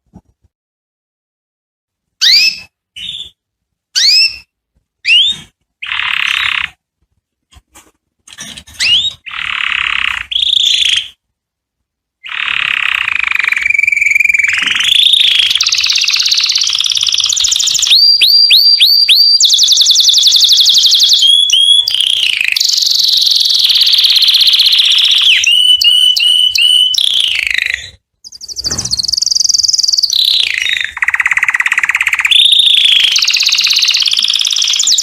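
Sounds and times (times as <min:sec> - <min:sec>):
canary singing: 0:02.2 - 0:06.8, 0:08.3 - 0:11.2, 0:12.2 - 0:35.0.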